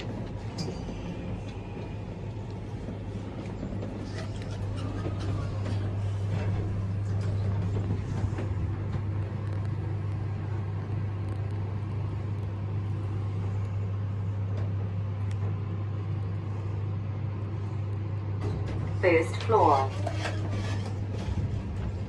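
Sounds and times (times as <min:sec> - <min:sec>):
lift hum and rumble: 0:00.0 - 0:22.0.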